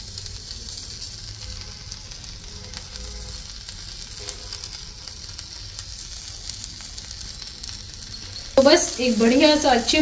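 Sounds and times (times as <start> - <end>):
food frying on a griddle: 0.0 - 10.0.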